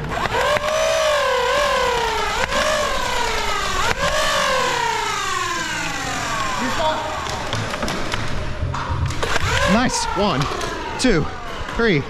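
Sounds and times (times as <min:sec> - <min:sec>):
toy blaster flywheel whine: 0:00.0 - 0:08.4, 0:09.2 - 0:11.8.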